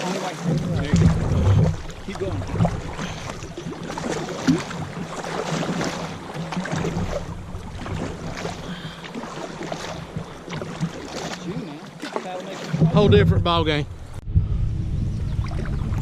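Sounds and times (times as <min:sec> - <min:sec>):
paddle splashing in water: 0:00.0 - 0:14.2
water rushing: 0:00.0 - 0:14.2.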